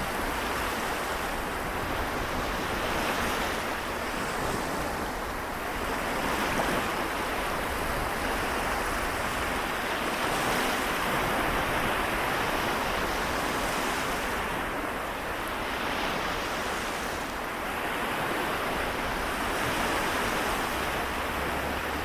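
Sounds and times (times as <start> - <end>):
small waves washing on shore: 0.0 - 22.0.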